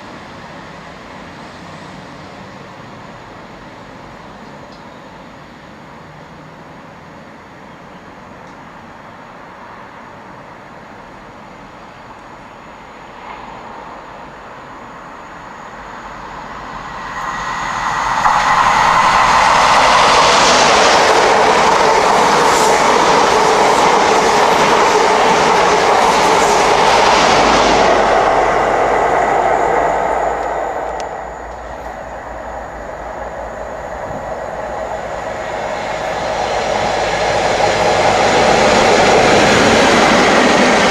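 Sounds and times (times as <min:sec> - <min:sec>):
diesel train passing at speed: 0:00.0 - 0:40.9.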